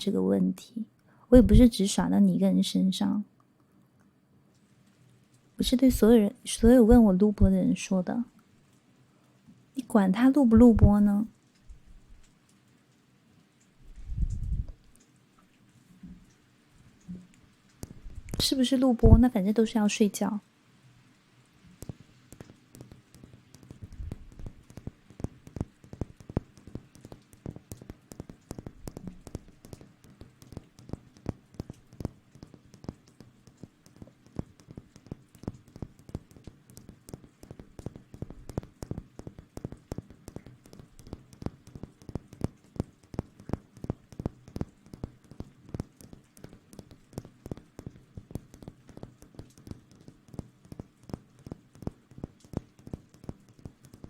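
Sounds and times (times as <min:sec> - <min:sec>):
crisp rustling crackles and taps: 0:00.0 - 0:02.6, 0:03.4 - 0:54.0
faint steady hum: 0:00.0 - 0:54.0.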